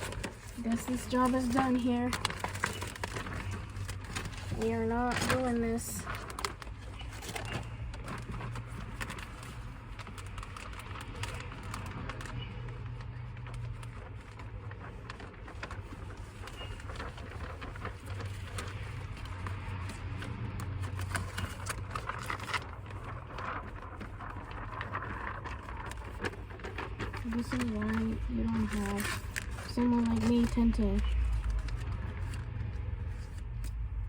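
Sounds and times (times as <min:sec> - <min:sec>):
handling clicks and rustles: 0:00.0 - 0:34.0.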